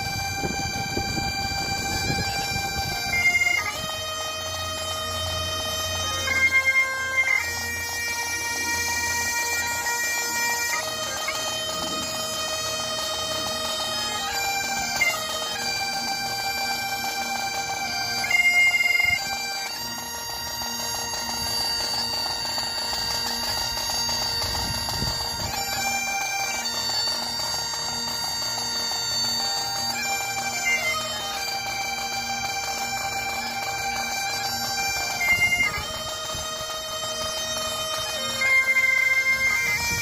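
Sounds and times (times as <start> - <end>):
bagpipes playing slow tune: 0.0 - 40.0.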